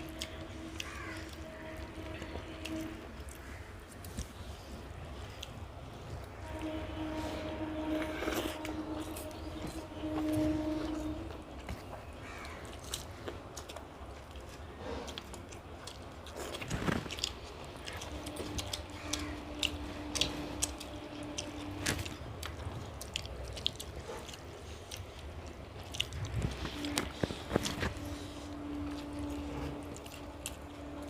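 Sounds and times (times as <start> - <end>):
people chewing food: 0.0 - 31.0.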